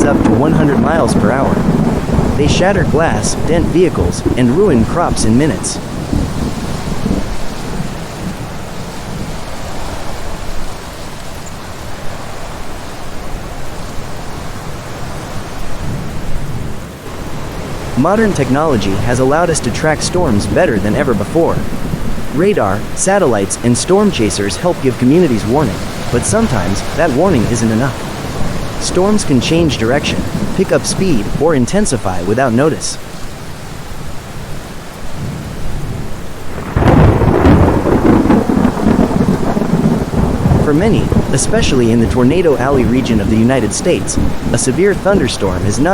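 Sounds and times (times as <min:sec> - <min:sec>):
thunder rumbling: 0:00.0 - 0:11.0, 0:13.0 - 0:33.0, 0:35.1 - 0:45.9
heavy rain pouring: 0:00.0 - 0:45.9.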